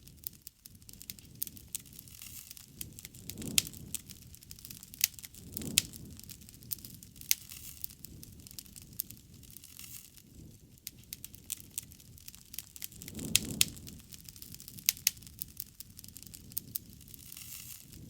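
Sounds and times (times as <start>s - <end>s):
soft rushing of fire: 0.0s - 18.0s
wood fire crackling: 0.0s - 18.0s.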